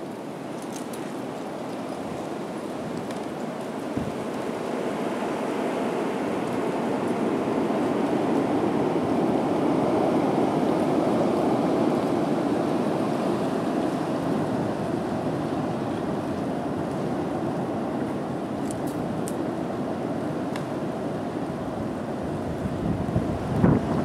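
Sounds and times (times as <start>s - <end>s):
blizzard wind blowing hard: 0.0s - 24.0s.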